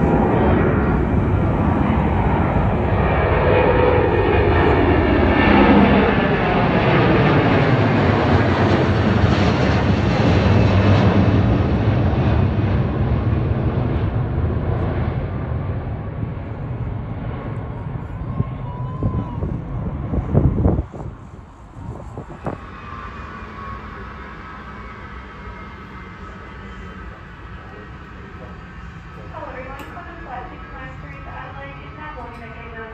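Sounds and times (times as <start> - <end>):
jet airliner passing overhead: 0.0 - 32.9.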